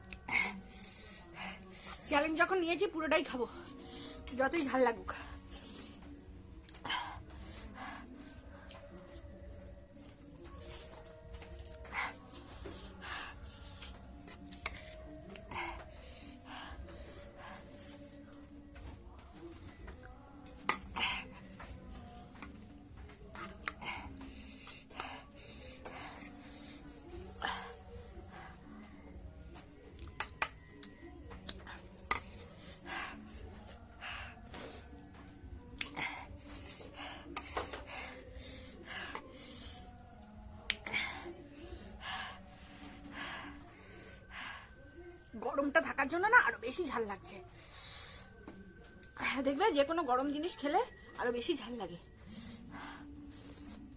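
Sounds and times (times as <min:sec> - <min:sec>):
faint background music: 0:00.0 - 0:53.9.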